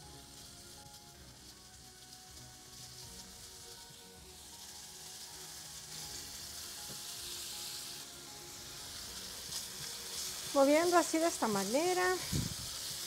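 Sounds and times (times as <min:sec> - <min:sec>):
bacon sizzling: 0:00.0 - 0:13.0.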